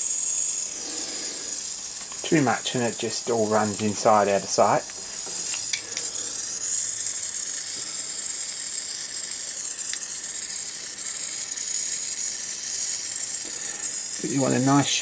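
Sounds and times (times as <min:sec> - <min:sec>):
blowtorch hissing: 0:00.0 - 0:15.0.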